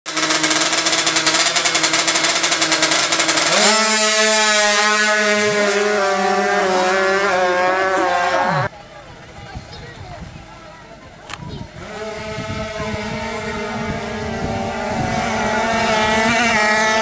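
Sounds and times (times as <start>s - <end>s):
motorcycle engine revving: 0.1s - 8.7s, 11.7s - 17.0s.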